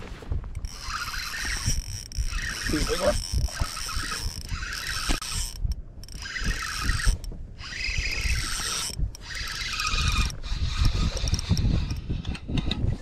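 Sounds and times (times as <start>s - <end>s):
fishing reel cranking whir: 0.6s - 12.9s.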